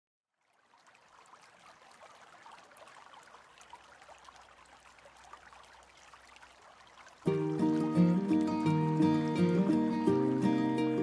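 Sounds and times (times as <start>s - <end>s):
stream babbling: 0.3s - 11.0s.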